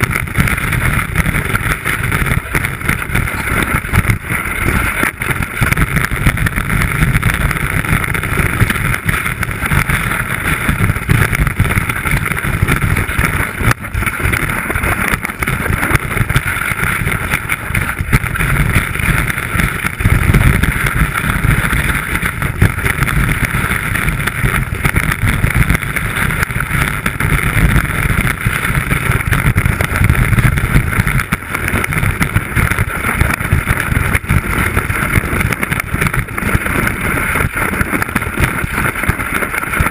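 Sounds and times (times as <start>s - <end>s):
ski chattering rumble: 0.0s - 39.9s
skis rushing over snow: 0.0s - 39.9s
wind buffeting microphone: 0.0s - 39.9s.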